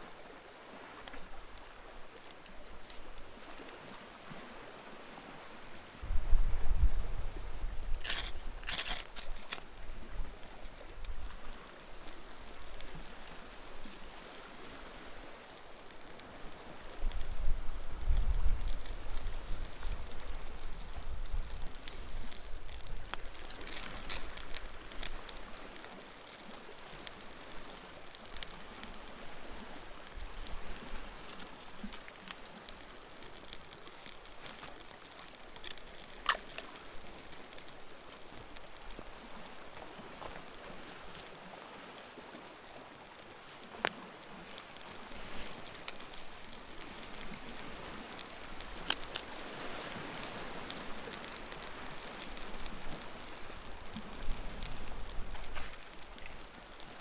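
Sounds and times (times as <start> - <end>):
campfire crackling and popping: 0.0 - 4.2, 7.7 - 57.0.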